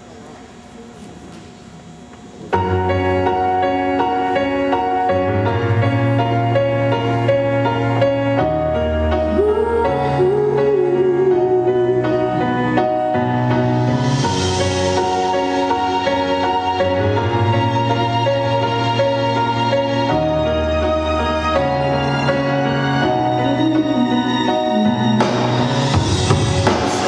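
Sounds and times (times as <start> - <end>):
sustained chords: 2.6 - 27.0
wavering melody line: 2.6 - 27.0.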